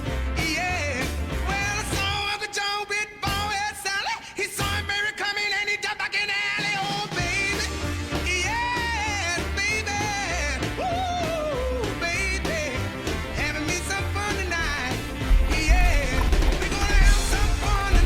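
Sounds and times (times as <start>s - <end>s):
rock song with vocals: 0.0s - 18.0s.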